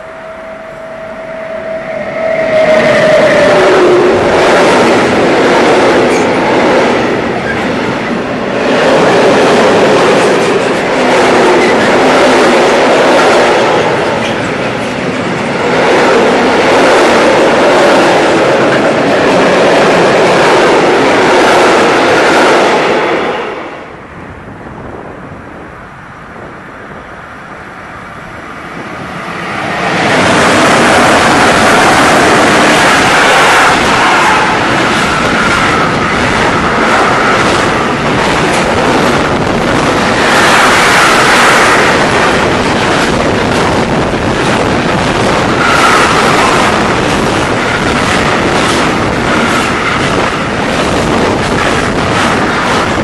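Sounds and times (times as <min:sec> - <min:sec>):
freight train wheels rattling on rail: 0:00.0 - 0:53.0.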